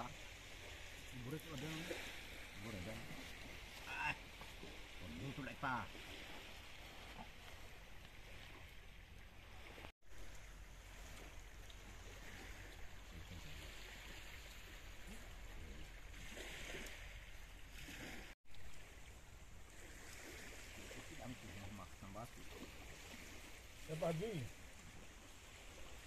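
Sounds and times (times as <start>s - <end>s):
small waves washing on beach: 0.0s - 26.0s.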